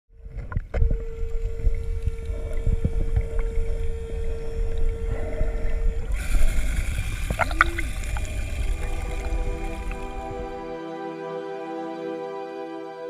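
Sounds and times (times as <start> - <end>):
low underwater rumble: 0.2 - 10.8
steady hum: 0.2 - 10.9.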